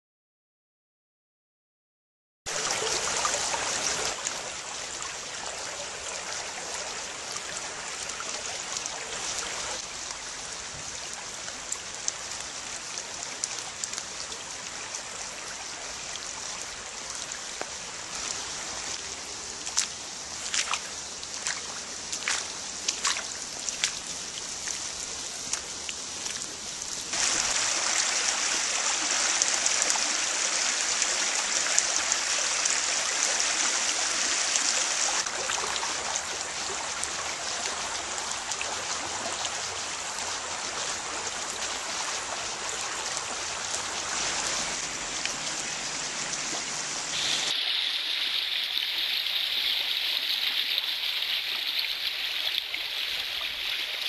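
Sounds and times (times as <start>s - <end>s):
river water flowing: 2.5s - 54.0s.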